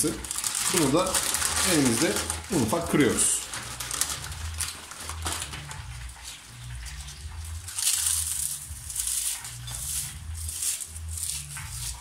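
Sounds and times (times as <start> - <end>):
potato chips crackling when crushed: 0.0 - 5.8, 7.6 - 12.0.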